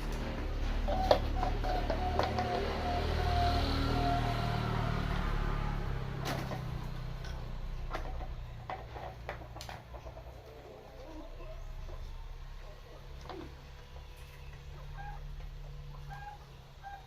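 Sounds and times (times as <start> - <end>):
low engine hum: 0.0 - 16.9.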